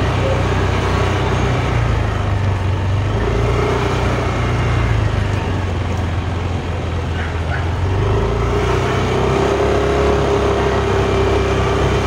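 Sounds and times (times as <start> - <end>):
road and wind noise: 0.0 - 12.0
scooter engine running: 0.0 - 12.0.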